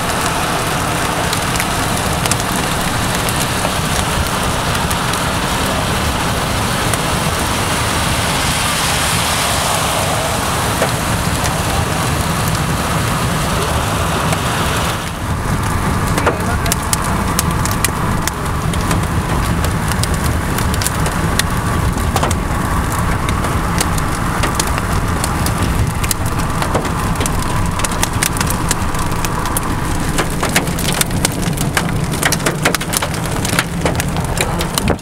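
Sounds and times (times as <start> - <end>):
raindrops tapping on car: 0.0 - 35.0
steady low rumble: 0.0 - 35.0.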